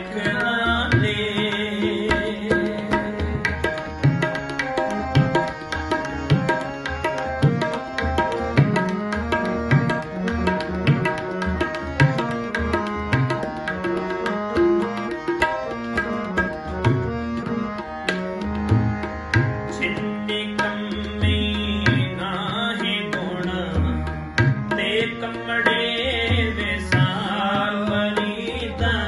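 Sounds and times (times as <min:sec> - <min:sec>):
harmonium chords: 0:00.0 - 0:29.0
tabla strokes: 0:00.2 - 0:29.0.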